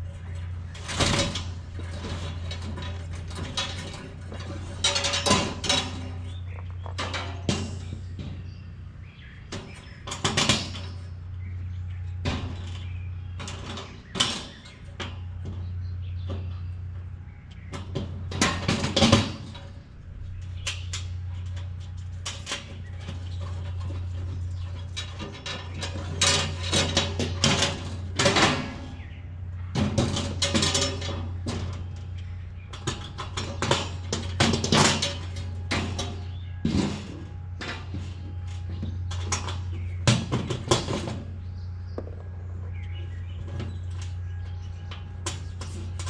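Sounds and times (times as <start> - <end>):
metal panels clanking: 0.0 - 46.0
steady low hum: 0.0 - 46.0.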